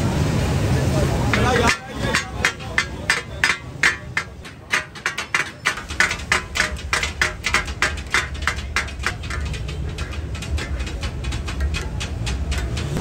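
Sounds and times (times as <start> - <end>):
metal spatulas clacking on griddle: 1.3 - 13.0.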